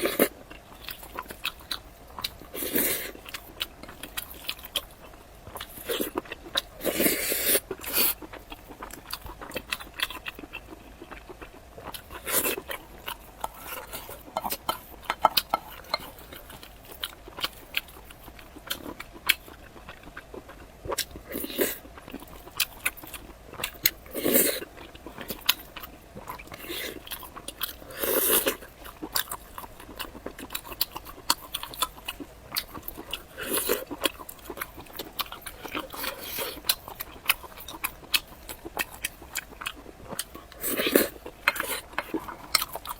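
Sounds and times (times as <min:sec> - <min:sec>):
chewing with wet mouth clicks: 0:00.0 - 0:42.9.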